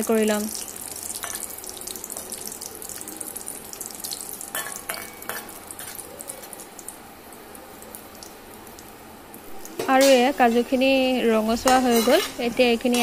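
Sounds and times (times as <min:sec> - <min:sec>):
nuts sizzling in hot fat: 0:00.0 - 0:13.0.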